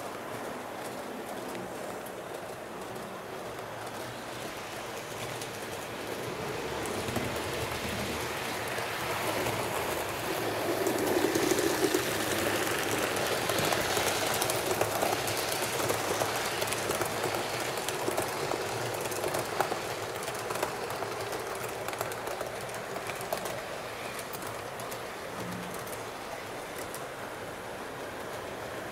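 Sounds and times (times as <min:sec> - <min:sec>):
model train rolling rumble: 0:00.0 - 0:28.9
wheels clicking over rail joints: 0:00.0 - 0:28.9.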